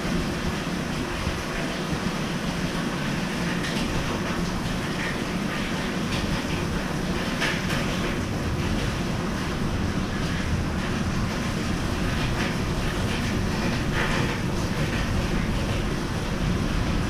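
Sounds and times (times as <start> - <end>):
water rushing: 0.0 - 17.0
water splashes: 0.0 - 17.0.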